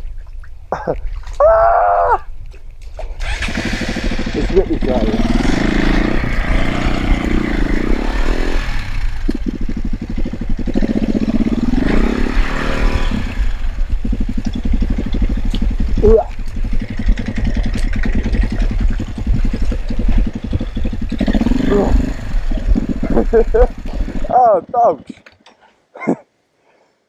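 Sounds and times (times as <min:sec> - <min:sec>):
motorcycle engine revving: 0:03.2 - 0:25.3.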